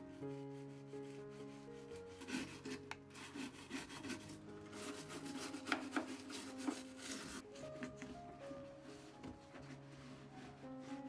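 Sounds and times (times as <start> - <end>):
brush scrubbing plastic: 0.2 - 11.0.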